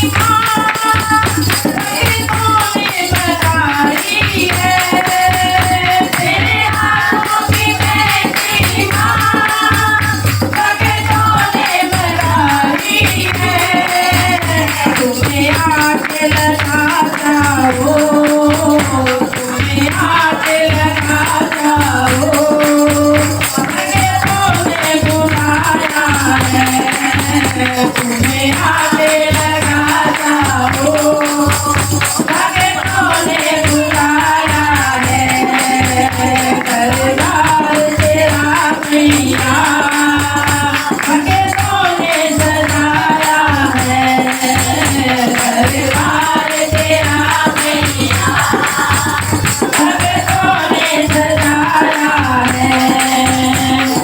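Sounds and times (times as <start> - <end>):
steady drum beat: 0.0 - 54.0
tambourine jingles: 0.0 - 54.0.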